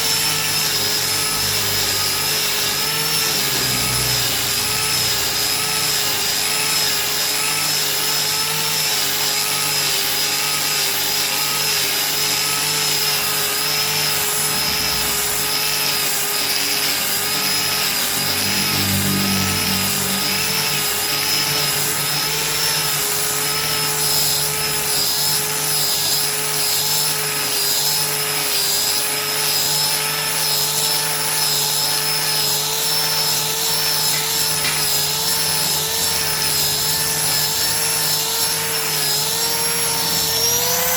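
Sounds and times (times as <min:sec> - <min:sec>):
angle grinder motor whine: 0:00.0 - 0:40.9
sanding disc rasping on wood: 0:00.0 - 0:40.9.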